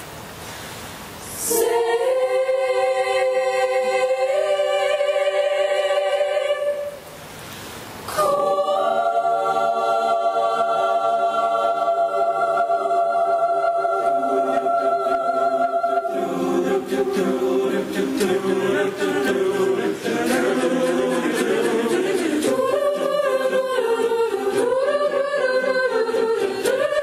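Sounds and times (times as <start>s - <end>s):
choir singing sustained chords: 1.2s - 7.4s, 8.0s - 27.0s.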